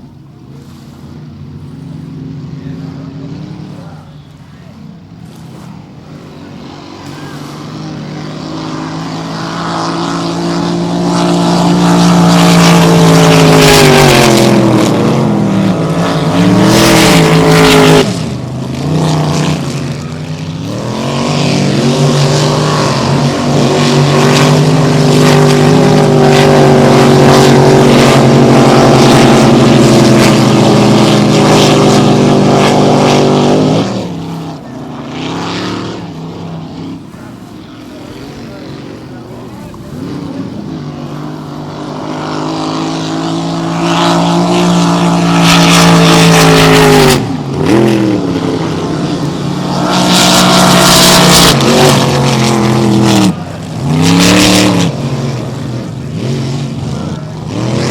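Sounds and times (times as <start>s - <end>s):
race boat engine at high revs: 0.0s - 57.9s.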